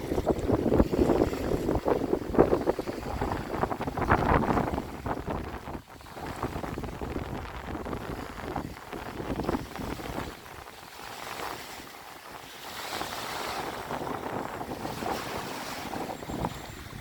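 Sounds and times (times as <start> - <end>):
waves washing in: 0.0 - 17.0
wind gusting on microphone: 0.0 - 17.0.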